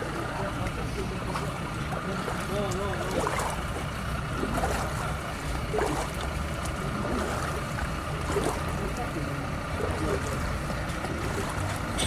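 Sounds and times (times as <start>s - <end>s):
footsteps wading through water: 0.0s - 12.0s
low mechanical hum: 0.0s - 12.0s.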